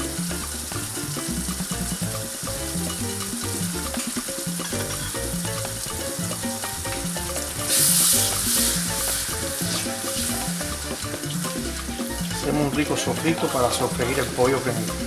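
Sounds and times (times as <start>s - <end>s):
background music with beat: 0.0s - 15.0s
onions and spices sizzling: 0.0s - 15.0s
spatula stirring: 0.0s - 15.0s.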